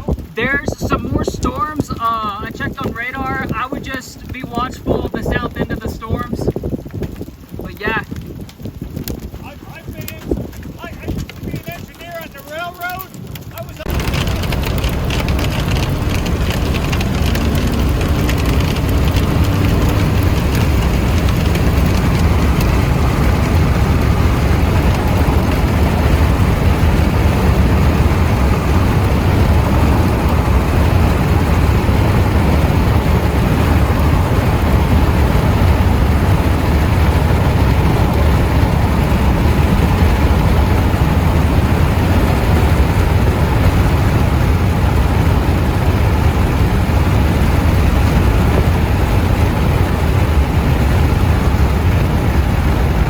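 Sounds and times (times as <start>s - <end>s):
vehicle rumble with road noise: 0.0s - 53.0s
wind noise: 0.0s - 53.0s.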